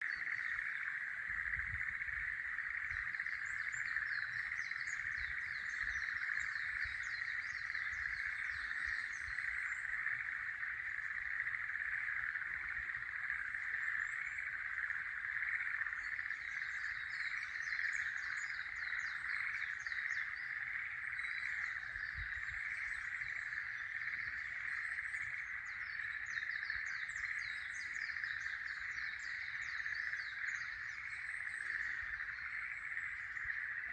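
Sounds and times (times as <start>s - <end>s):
frogs calling: 0.0s - 33.9s
songbirds singing: 0.0s - 33.9s.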